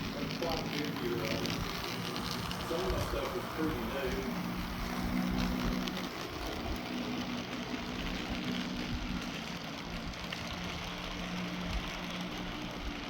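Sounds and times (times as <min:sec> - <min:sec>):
model train motor hum: 0:00.0 - 0:13.0
wheels clicking on rails: 0:00.0 - 0:13.0.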